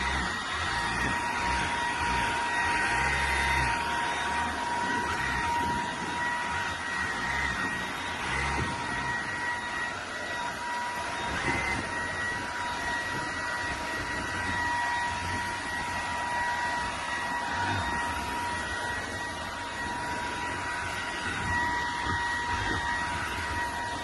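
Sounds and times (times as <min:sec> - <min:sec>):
stick vacuum running: 0:00.0 - 0:24.0.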